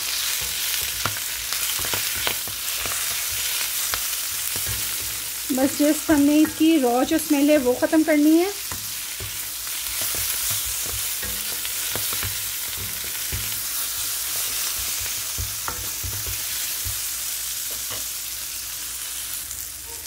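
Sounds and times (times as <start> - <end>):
vegetables sizzling in butter: 0.0 - 20.0.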